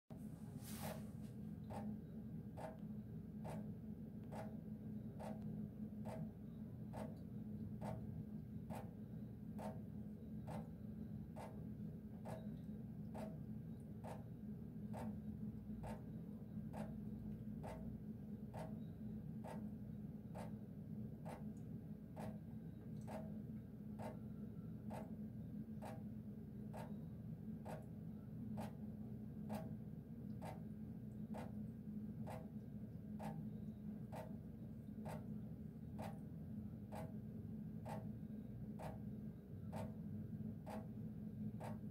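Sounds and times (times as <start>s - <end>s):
steady low hum: 0.1s - 41.9s.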